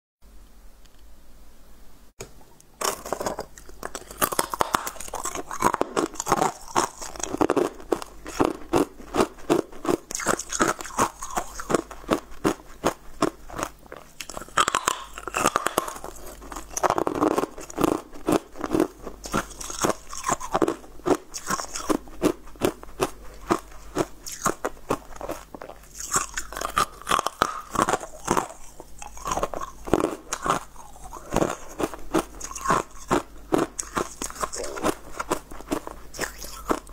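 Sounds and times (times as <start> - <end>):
crunching and chewing corn: 2.6 - 36.9.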